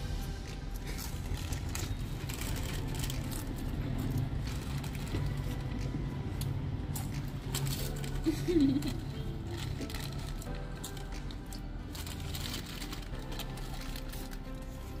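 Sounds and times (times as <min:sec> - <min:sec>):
low rumble: 0:00.0 - 0:15.0
potato chips crunching: 0:00.1 - 0:15.0
foil chip packets crinkling: 0:00.3 - 0:05.8, 0:07.0 - 0:15.0.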